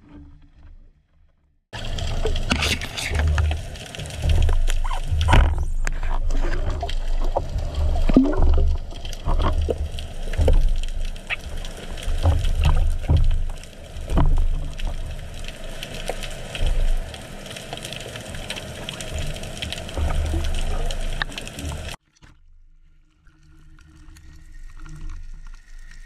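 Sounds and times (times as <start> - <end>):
water sloshing and rushing: 1.7 - 26.0.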